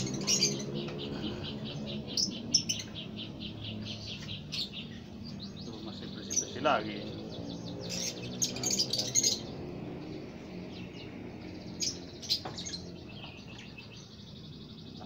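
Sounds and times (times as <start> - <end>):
lovebirds chirping: 0.0 - 15.0
soft bird twittering: 0.0 - 15.0.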